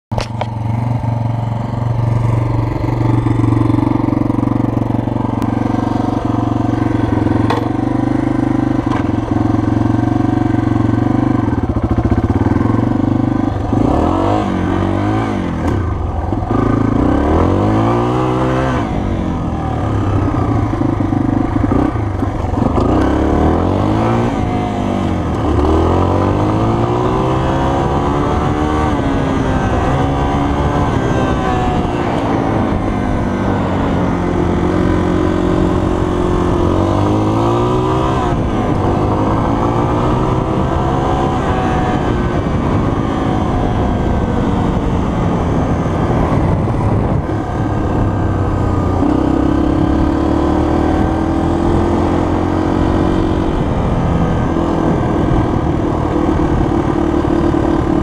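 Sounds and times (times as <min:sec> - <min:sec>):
dirt bike engine revving: 0:00.6 - 0:58.0.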